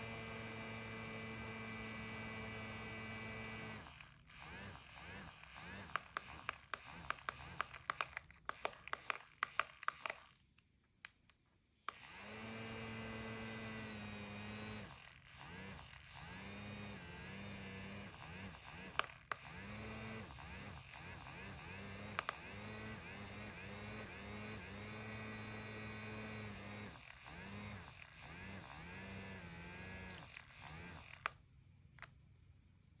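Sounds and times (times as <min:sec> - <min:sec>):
electric fan motor humming: 0:00.0 - 0:10.4, 0:11.9 - 0:31.3.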